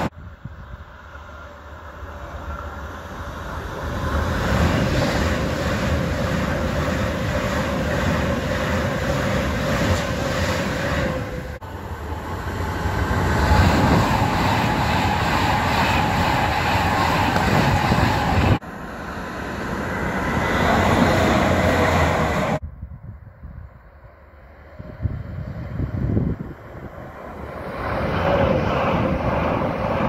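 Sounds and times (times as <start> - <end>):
train rushing past at speed: 0.0 - 22.6, 23.9 - 30.0.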